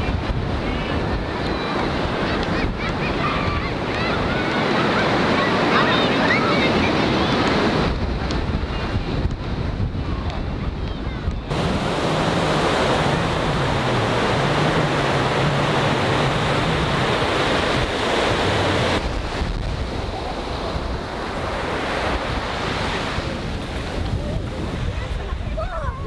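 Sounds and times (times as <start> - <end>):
ocean surf breaking on beach: 0.0 - 26.0
wind buffeting microphone: 0.0 - 26.0.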